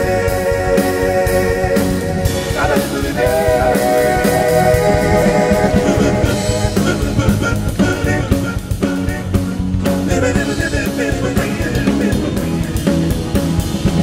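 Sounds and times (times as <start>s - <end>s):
live band playing rock: 0.0s - 14.0s.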